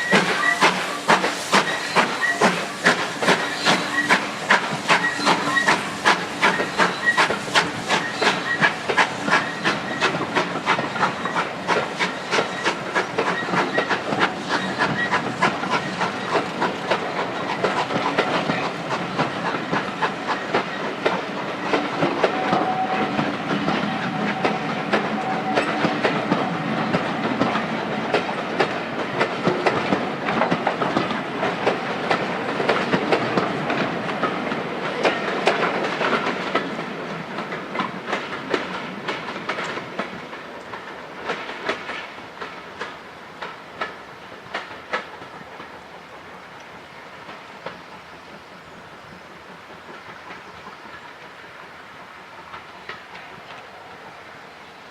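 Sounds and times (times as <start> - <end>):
steam locomotive exhaust beats: 0.0 - 54.4
coaches clicking over rail joints: 0.0 - 54.7.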